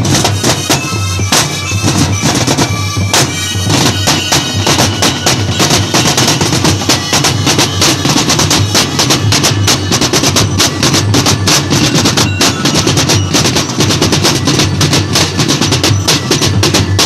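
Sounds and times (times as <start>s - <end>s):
drummers beating barrel drums: 0.0s - 17.0s.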